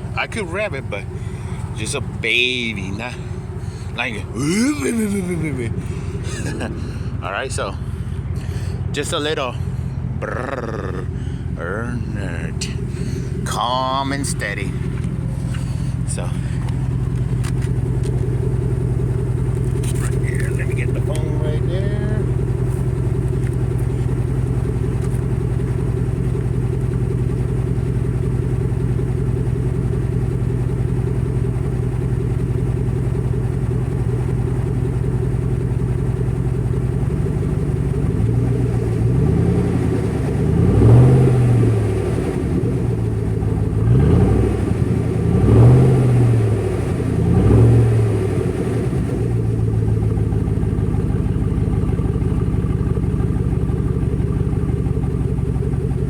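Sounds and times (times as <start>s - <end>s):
car engine idling: 0.0s - 56.0s
engine throttle blips: 0.0s - 56.0s.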